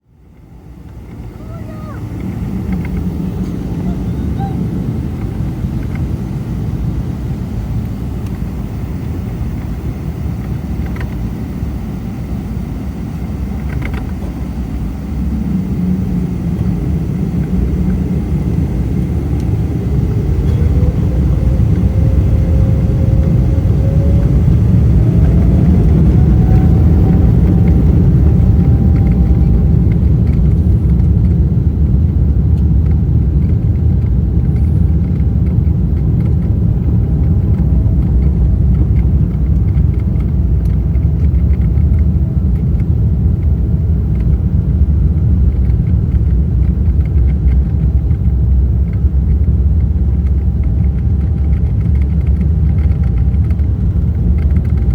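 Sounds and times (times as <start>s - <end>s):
aircraft cabin rumble: 0.0s - 54.9s
jet engines spooling up: 0.3s - 54.9s.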